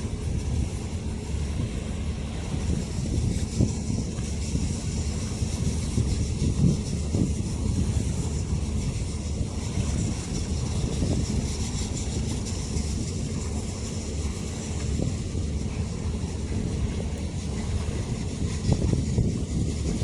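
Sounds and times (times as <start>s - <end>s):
ferry engine low rumble: 0.0s - 20.0s
wind on microphone: 0.0s - 20.0s.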